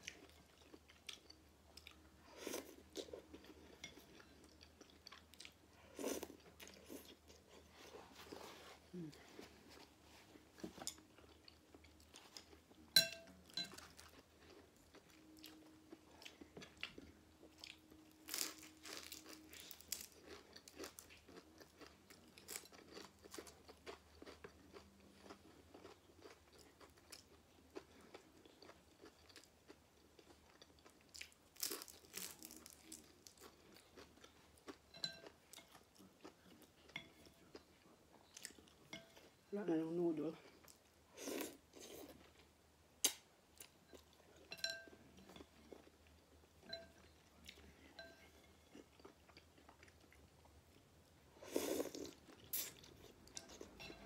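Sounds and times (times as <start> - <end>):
chewing and crunching fried food: 0.0 - 54.0.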